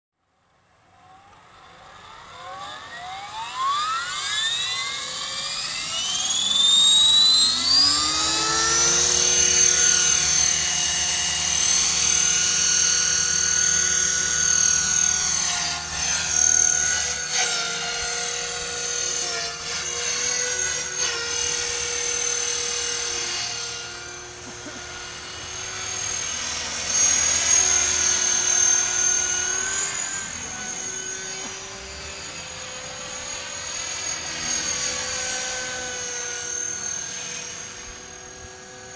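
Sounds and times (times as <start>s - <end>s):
electric helicopter high whine: 0.2s - 38.9s.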